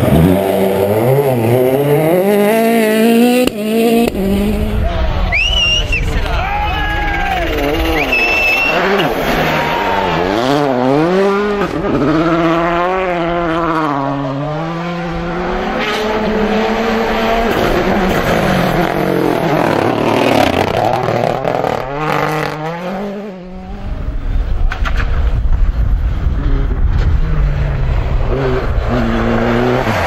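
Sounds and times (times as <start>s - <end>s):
rally cars driving hard: 0.0s - 30.0s.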